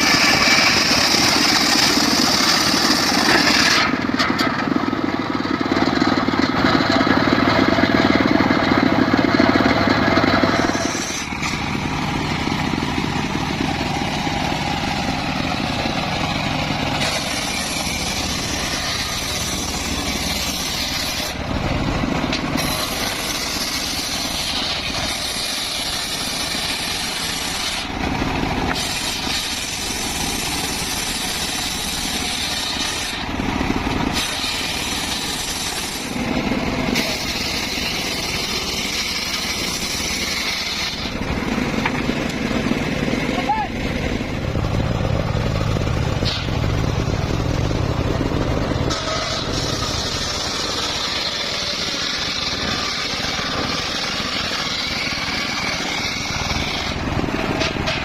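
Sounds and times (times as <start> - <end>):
circular saw motor running: 0.0 - 58.0
saw cutting wood: 0.0 - 58.0.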